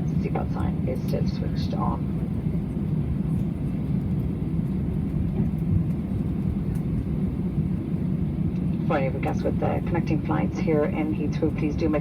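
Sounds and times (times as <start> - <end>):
aircraft cabin rumble: 0.0 - 12.0
jet engines idling: 0.0 - 12.0.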